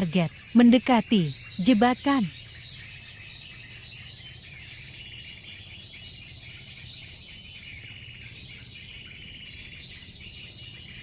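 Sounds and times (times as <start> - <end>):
insects chorus: 0.0 - 11.0
small bird chirps: 0.0 - 11.0.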